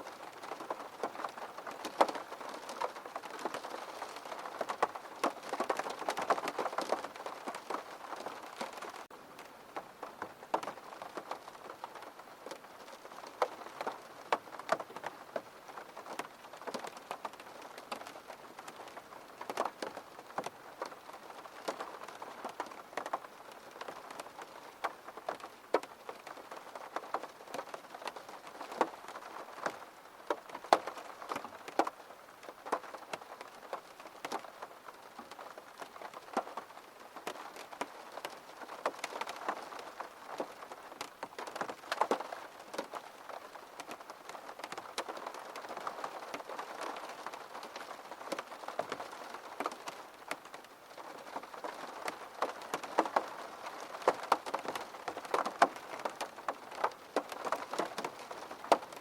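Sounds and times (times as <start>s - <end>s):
rain falling: 0.0s - 59.0s
raindrops ticking: 0.0s - 59.0s.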